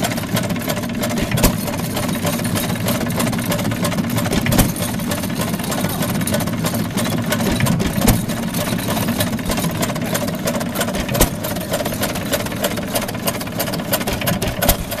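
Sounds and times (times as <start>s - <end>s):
engine driving clattering machine: 0.0s - 15.0s
loud mechanical knock: 0.0s - 15.0s.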